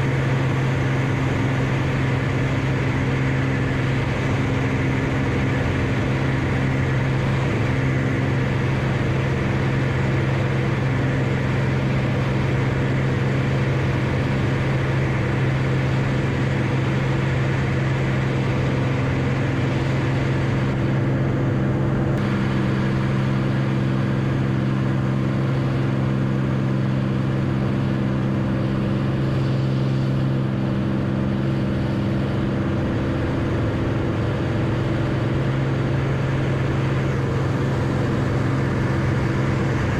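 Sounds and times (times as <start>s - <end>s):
aircraft piston engine droning: 0.0s - 39.9s.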